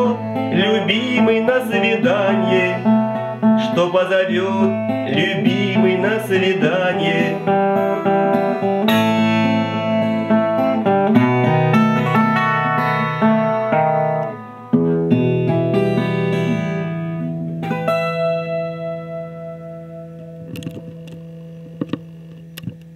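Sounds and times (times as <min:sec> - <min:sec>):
instrumental music: 0:00.0 - 0:22.9.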